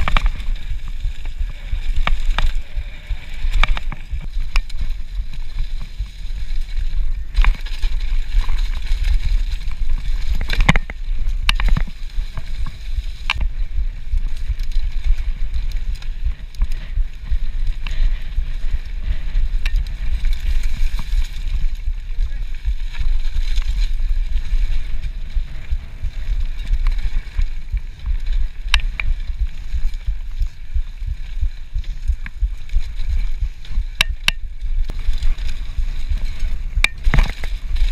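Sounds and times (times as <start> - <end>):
bike rattling: 0.0 - 37.9
wind buffeting microphone: 0.0 - 37.9.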